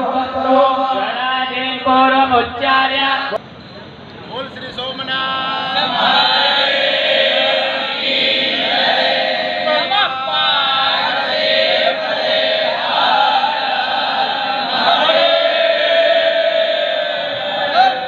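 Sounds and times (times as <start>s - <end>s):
men chanting in unison: 0.0s - 3.4s, 5.2s - 18.0s.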